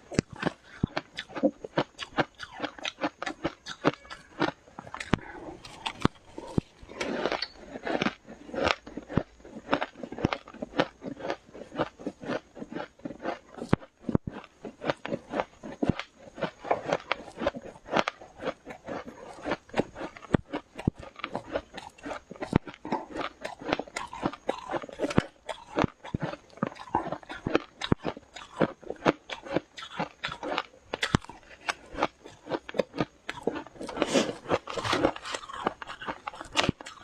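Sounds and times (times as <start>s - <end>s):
chewing crunchy frost: 0.0s - 37.0s.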